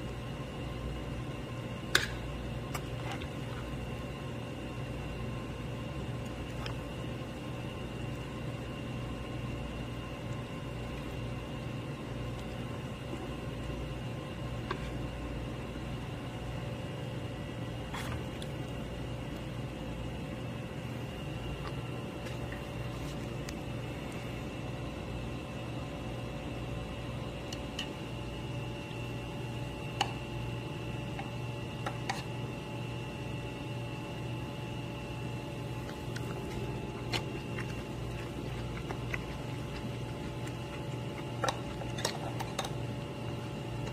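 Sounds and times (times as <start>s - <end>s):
steady machine hum: 0.0s - 43.9s.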